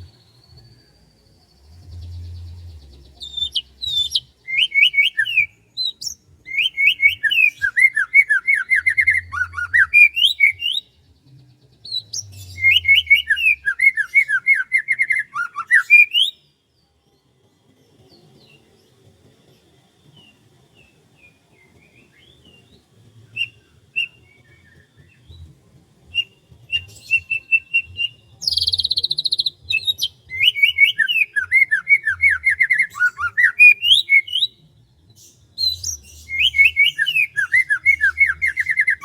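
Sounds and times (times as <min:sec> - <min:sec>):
songbird chirping: 0:00.0 - 0:39.0.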